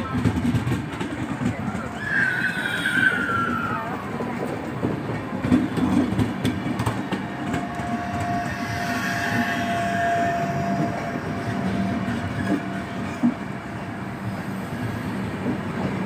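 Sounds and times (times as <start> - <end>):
wheels clicking over rail joints: 0.0 - 13.7
train wheels rumbling on track: 0.0 - 16.0.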